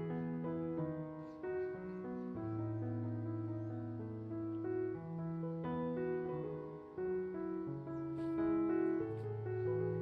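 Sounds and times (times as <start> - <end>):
slow keyboard melody: 0.0 - 10.0.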